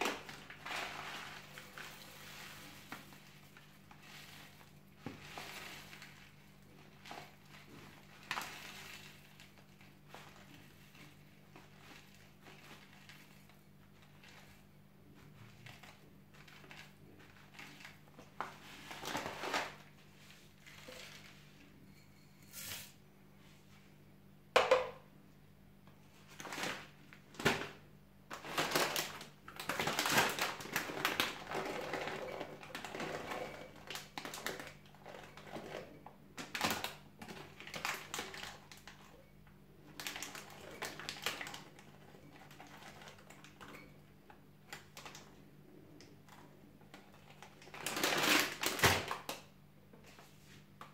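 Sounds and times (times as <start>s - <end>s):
plastic packaging crinkling: 0.0s - 21.5s, 26.2s - 39.2s, 39.8s - 43.9s, 46.9s - 49.5s.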